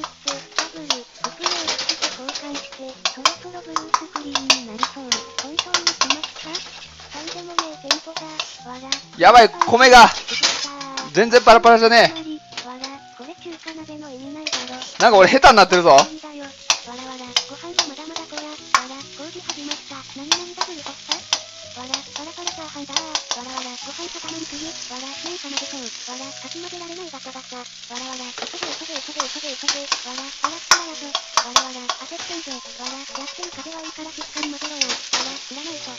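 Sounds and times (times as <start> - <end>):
ladle striking and scraping wok: 0.0 - 13.8, 14.4 - 26.5, 27.7 - 35.9
rice sizzling in a wok: 0.0 - 35.9.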